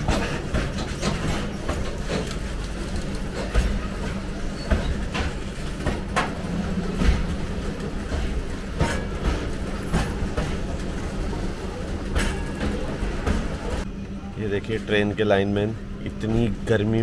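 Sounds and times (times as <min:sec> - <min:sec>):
wheel clacks over rails: 0:00.0 - 0:13.8
train rumble: 0:00.0 - 0:17.0.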